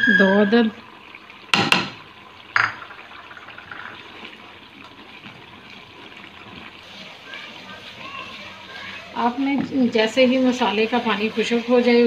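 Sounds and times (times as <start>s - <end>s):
gravy simmering and bubbling in a pot: 0.0s - 12.0s.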